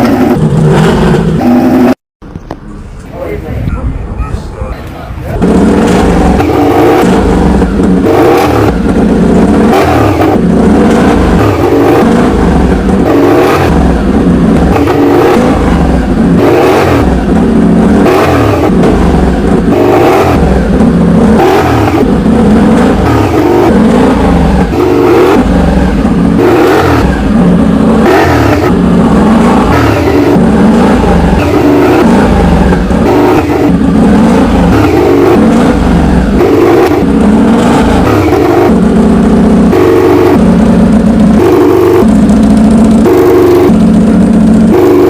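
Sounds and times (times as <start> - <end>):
racing motorcycle engine revving: 0.0 - 2.0, 5.3 - 45.0.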